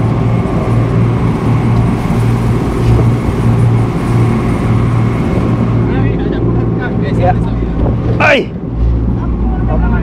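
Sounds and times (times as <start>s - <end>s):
boat engine droning: 0.0s - 10.0s
water rushing against hull: 0.0s - 10.0s.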